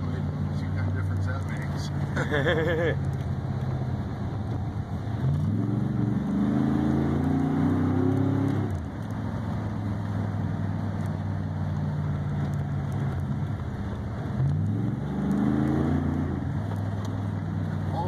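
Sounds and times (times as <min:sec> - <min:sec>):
car engine running: 0:00.0 - 0:18.0
tyre and road noise: 0:00.0 - 0:18.0.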